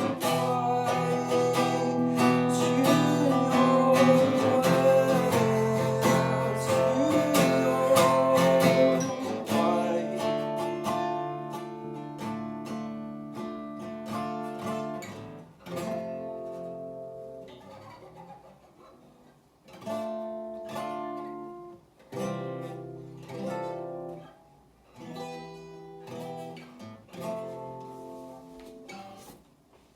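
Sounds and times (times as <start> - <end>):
acoustic guitar strumming: 0.0 - 29.4.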